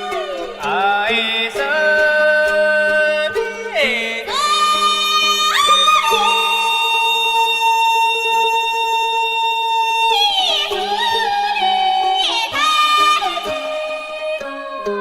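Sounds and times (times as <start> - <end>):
folk singing with long high notes: 0.0 - 15.0.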